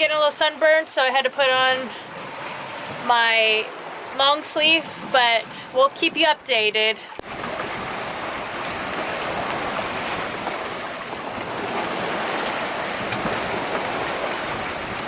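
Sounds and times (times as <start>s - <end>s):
water rushing past boat hull: 0.0s - 15.0s.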